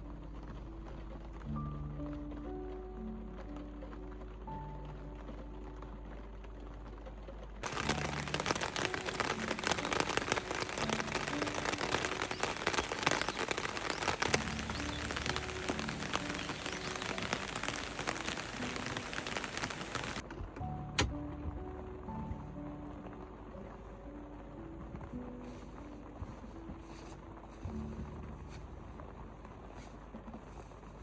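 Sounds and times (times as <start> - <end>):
rain pattering on a vehicle roof: 0.0 - 31.0
soft background music: 0.0 - 31.0.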